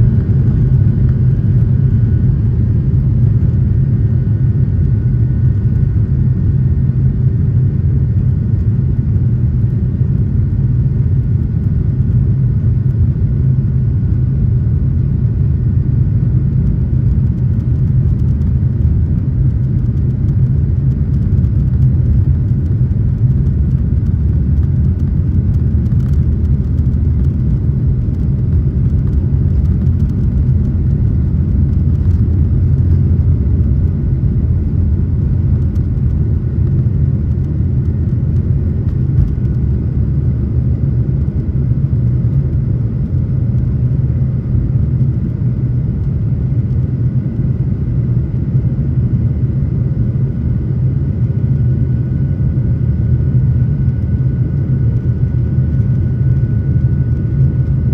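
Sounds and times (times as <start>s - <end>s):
faint high engine whine: 0.0s - 57.9s
jet engines rumbling: 0.0s - 57.9s.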